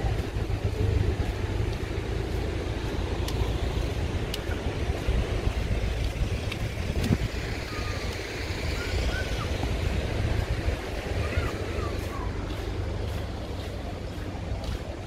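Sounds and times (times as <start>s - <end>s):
ocean surf: 0.0s - 15.0s
wind buffeting the microphone: 0.0s - 15.0s.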